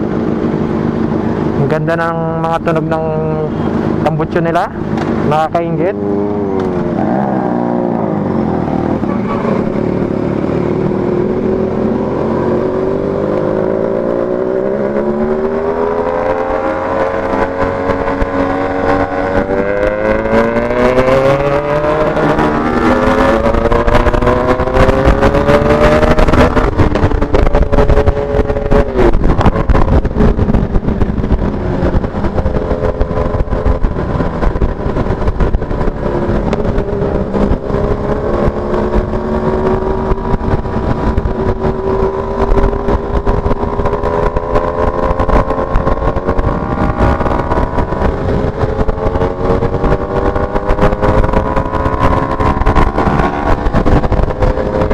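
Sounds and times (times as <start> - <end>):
motorcycle engine revving: 0.0 - 54.9
wind buffeting microphone: 0.0 - 54.9.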